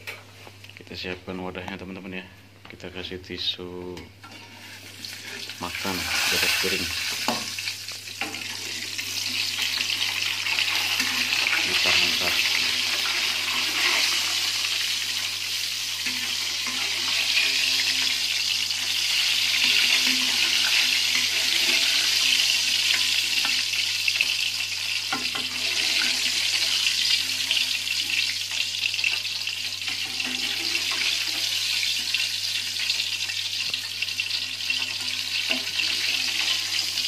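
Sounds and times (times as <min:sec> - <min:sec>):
hot oil sizzling: 0:04.2 - 0:37.0.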